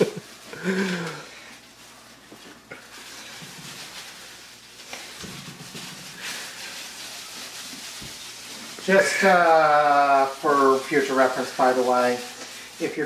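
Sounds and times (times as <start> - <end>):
plastic gloves rustling: 0.0 - 13.0.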